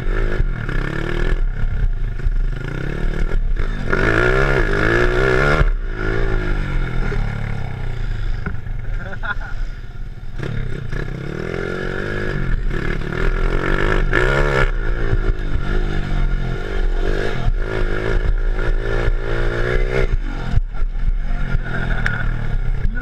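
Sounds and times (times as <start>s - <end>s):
three-wheeler engine revving: 0.0s - 23.0s.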